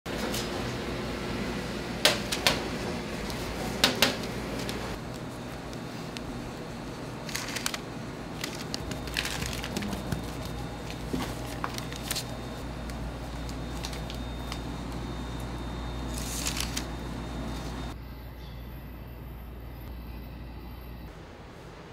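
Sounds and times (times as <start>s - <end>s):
steady low hum: 0.1s - 21.9s.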